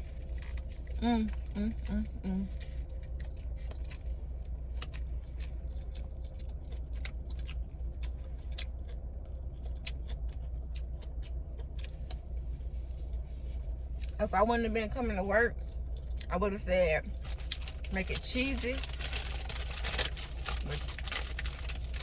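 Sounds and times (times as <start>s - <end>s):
chewing with mouth clicks: 0.0s - 13.3s, 13.9s - 14.2s, 17.1s - 22.0s
low rumble: 0.0s - 22.0s.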